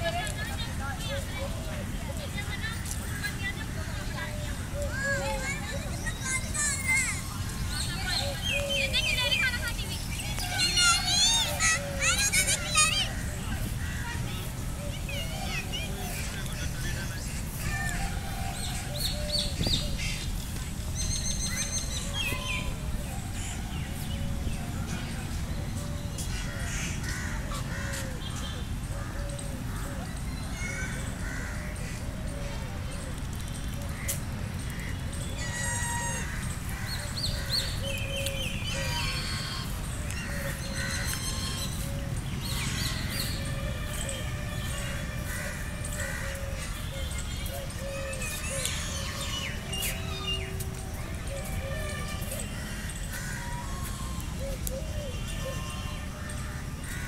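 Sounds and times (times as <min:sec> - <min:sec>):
small birds chirping: 0:00.0 - 0:44.2, 0:44.9 - 0:55.9.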